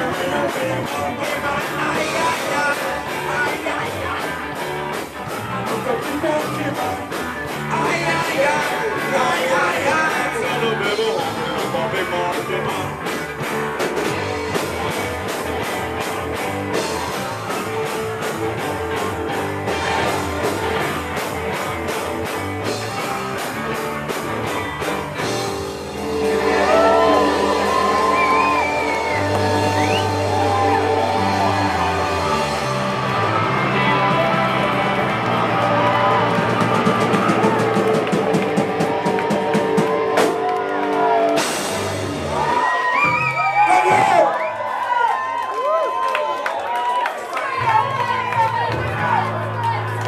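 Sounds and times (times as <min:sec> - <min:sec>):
drum kit beat: 0:00.0 - 0:44.2
electric guitar: 0:00.0 - 0:44.8
bass guitar: 0:00.0 - 0:45.5, 0:47.5 - 0:50.0.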